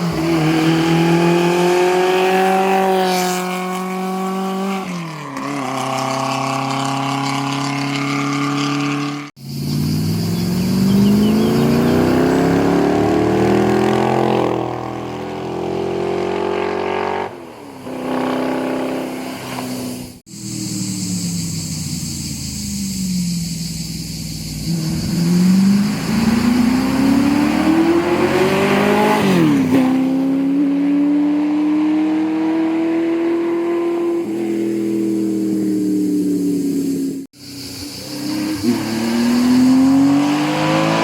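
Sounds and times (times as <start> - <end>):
racing car engines revving: 0.0 - 20.2, 24.3 - 41.0.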